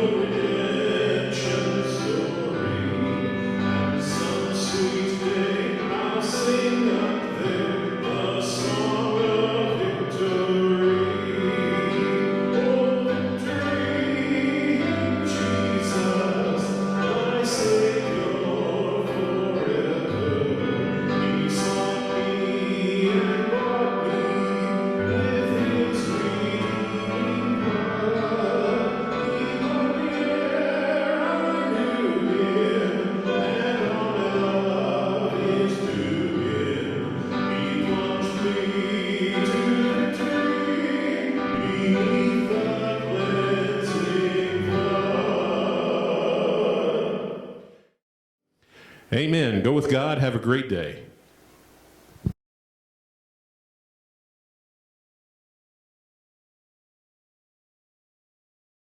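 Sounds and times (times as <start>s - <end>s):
choir singing church music: 0.0s - 47.8s.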